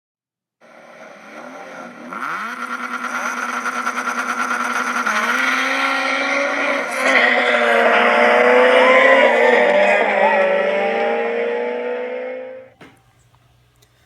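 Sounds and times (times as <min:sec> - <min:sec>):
car engine revving: 0:00.6 - 0:12.8.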